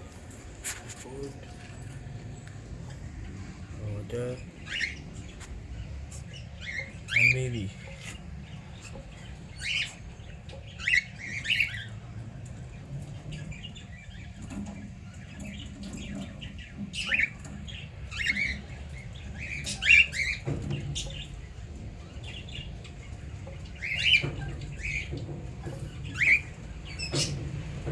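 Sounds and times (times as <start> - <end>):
steady low hum: 0.0 - 27.9
cockatiels chirping: 4.2 - 12.2, 13.0 - 27.4.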